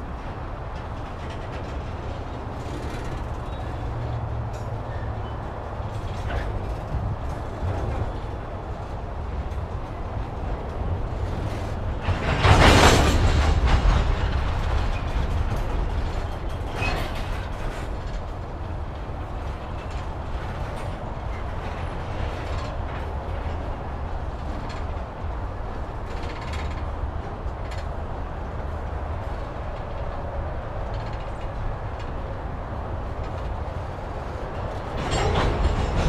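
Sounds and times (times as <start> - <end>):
train cars rumbling and clattering: 0.0 - 36.0.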